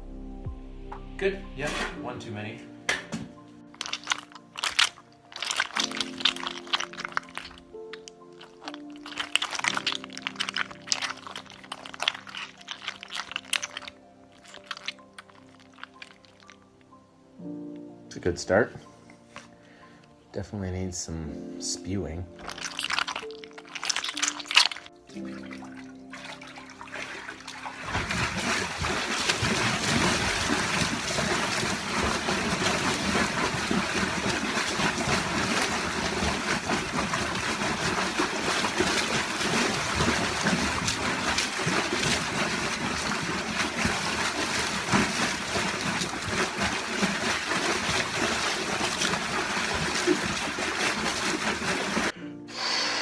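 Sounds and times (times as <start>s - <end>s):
liquid splashing and trickling: 3.6s - 16.8s, 22.0s - 52.2s.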